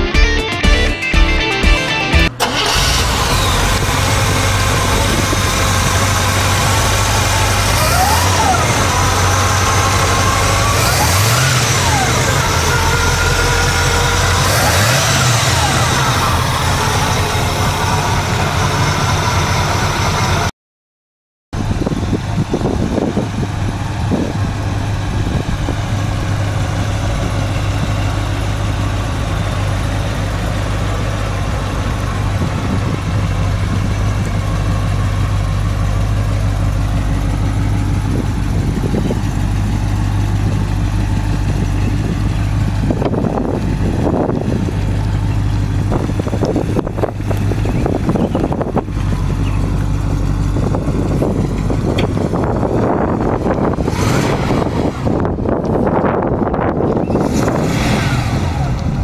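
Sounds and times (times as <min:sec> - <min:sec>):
truck engine running: 0:00.0 - 0:20.5, 0:21.5 - 0:59.0.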